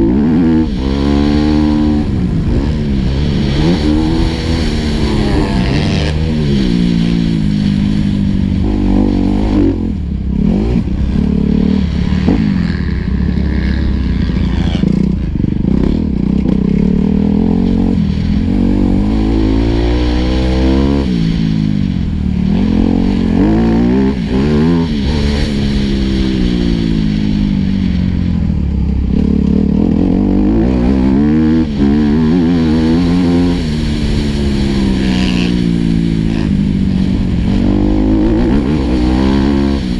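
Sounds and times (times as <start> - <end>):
motocross bike engine revving: 0.0 - 28.3, 28.9 - 39.9.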